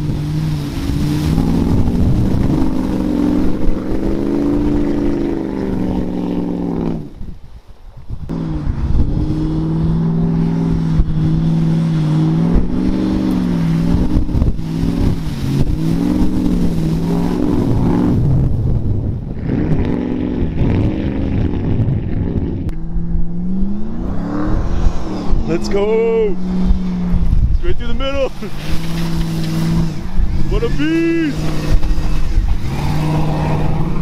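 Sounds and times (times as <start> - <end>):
tyres churning and splashing: 0.0 - 6.9, 8.6 - 21.6, 23.3 - 34.0
truck engine revving: 0.0 - 7.2, 8.3 - 34.0.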